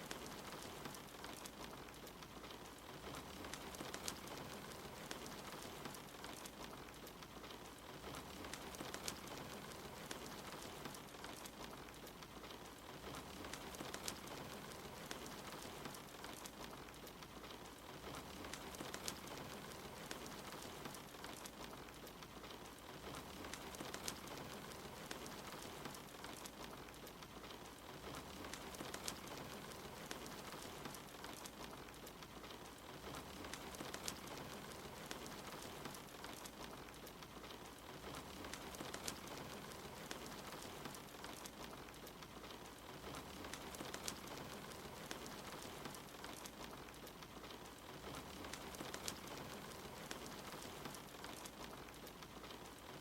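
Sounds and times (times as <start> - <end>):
steady rain: 0.0 - 53.0
wood fire crackling and popping: 0.0 - 53.0.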